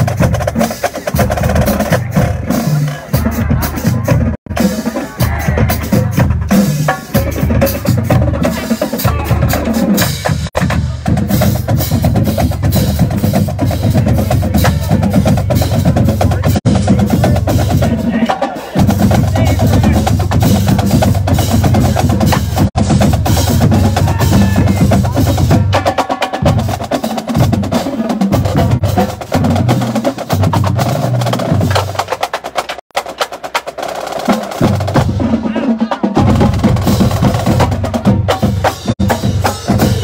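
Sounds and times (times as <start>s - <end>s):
drum line: 0.0s - 40.0s
marching band playing: 0.0s - 40.0s.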